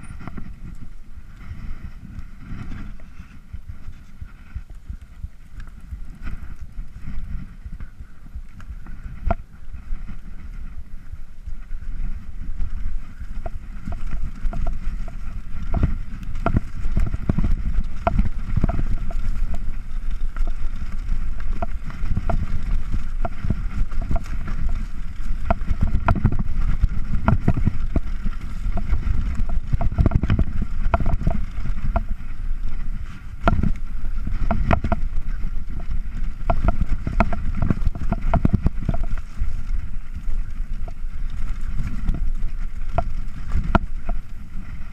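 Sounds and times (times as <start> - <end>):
bike knocks and rattles: 0.0 - 44.9
wind rumble on microphone: 0.0 - 44.9.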